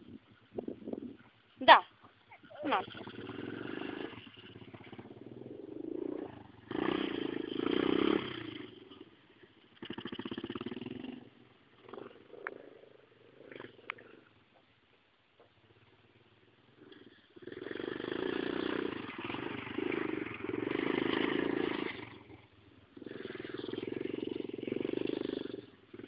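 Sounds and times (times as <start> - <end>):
pit bike engine revving: 2.6 - 14.2, 15.7 - 26.0.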